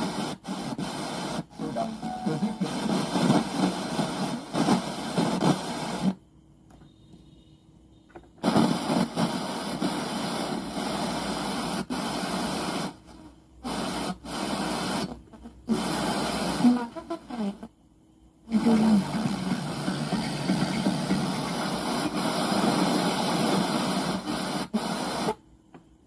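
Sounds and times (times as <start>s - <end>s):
radio static hissing and crackling: 0.0s - 6.2s, 8.1s - 17.8s, 18.4s - 25.5s.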